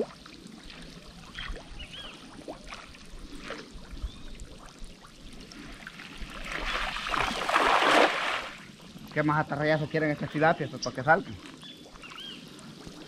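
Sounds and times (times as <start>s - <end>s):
water splashing and streaming: 0.0s - 13.0s.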